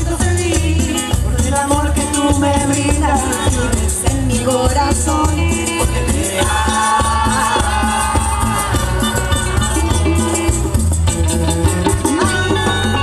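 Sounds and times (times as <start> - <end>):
cumbia band playing: 0.0 - 13.0.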